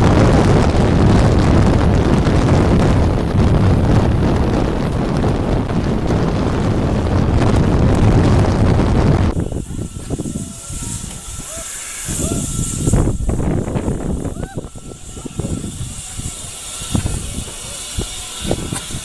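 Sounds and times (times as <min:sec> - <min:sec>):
train carriage running noise: 0:00.0 - 0:19.0
wind buffeting microphone: 0:00.0 - 0:19.0.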